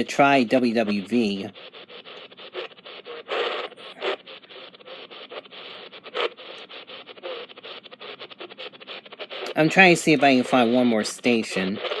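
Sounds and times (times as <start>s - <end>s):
radio static and crackle: 0.0s - 12.0s.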